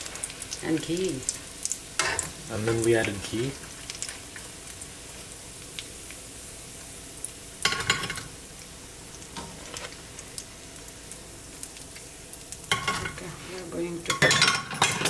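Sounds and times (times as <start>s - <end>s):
oil sizzling and popping: 0.0s - 15.0s.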